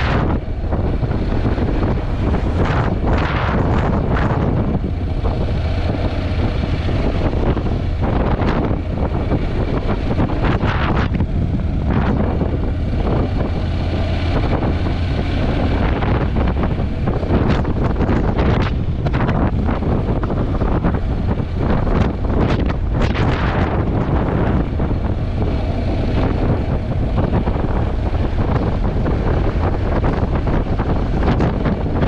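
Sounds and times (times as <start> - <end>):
wind buffeting camera microphone: 0.0 - 32.0.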